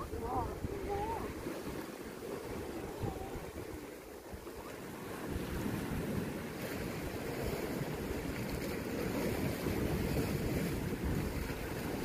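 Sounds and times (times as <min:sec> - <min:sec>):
sea waves washing against rocks: 0:00.0 - 0:12.0
wind rumbling on microphone: 0:00.0 - 0:12.0.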